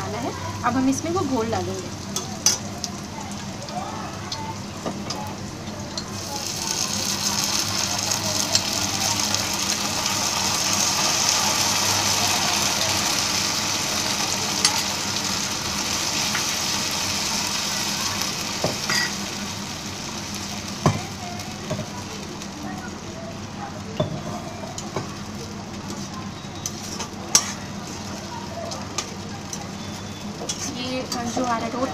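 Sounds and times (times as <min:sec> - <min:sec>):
slurry sizzling in a hot pan: 0:00.0 - 0:31.9.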